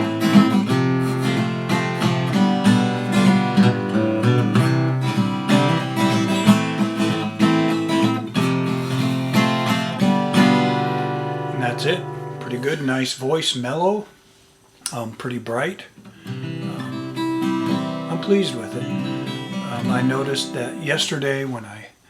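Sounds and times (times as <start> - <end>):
acoustic guitar playing: 0.0 - 13.4, 16.0 - 21.4.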